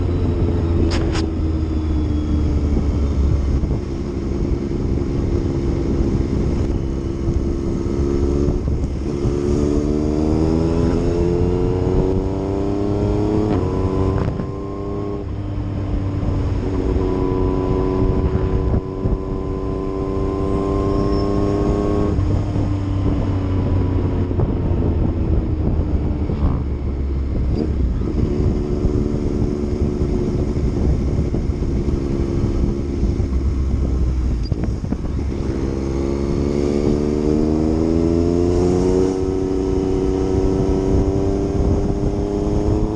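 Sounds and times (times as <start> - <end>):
motorcycle engine revving: 0.0 - 42.9
wind rush: 0.0 - 42.9.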